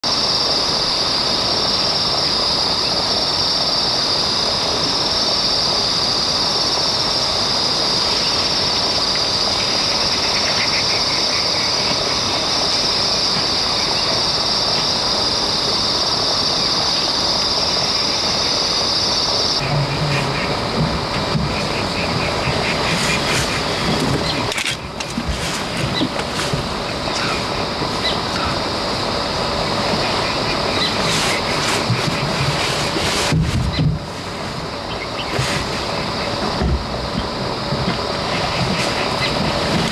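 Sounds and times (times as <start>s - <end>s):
dense outdoor noise: 0.0s - 39.9s
insect chorus shrilling: 0.0s - 39.9s.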